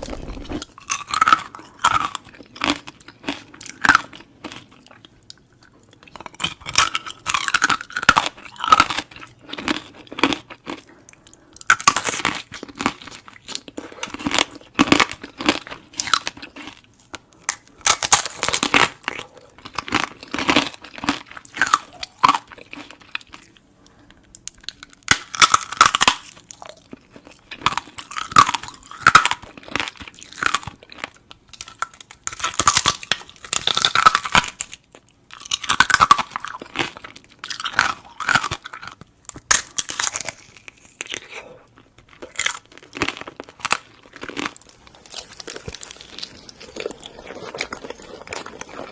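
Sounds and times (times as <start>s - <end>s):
crunching and chewing: 0.0s - 48.9s.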